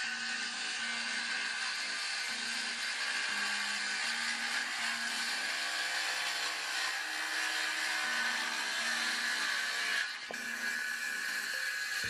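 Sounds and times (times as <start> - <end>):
circular saw cutting wood: 0.0 - 12.0.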